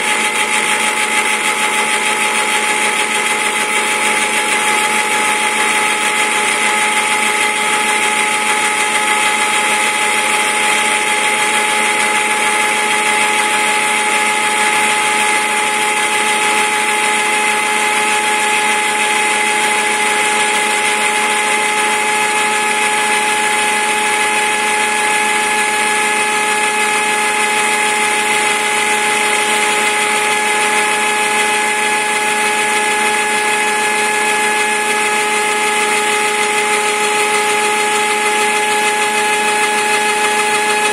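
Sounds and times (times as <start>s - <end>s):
end mill cutting wood: 0.0s - 40.9s
spindle whine: 0.0s - 40.9s.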